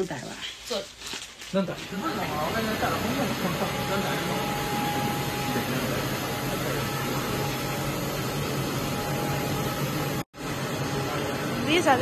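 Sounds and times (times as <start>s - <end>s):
workshop room noise: 0.0s - 12.0s.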